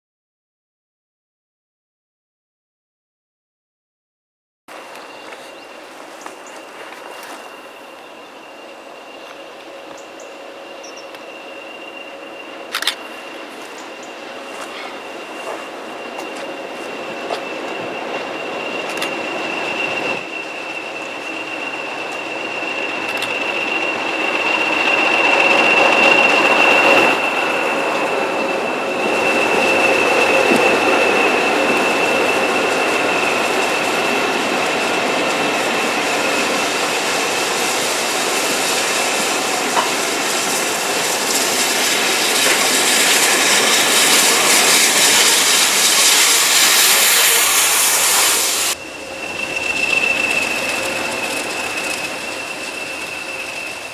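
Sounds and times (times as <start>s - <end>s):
diesel locomotive whine: 4.7s - 53.9s
steam locomotive hissing: 4.7s - 53.9s
train coaches rolling: 4.7s - 53.9s.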